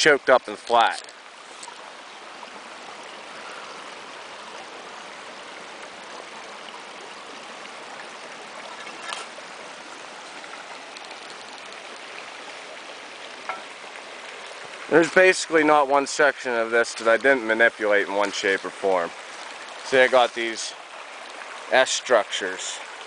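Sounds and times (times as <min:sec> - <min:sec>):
stream babbling over rocks: 0:00.0 - 0:23.0.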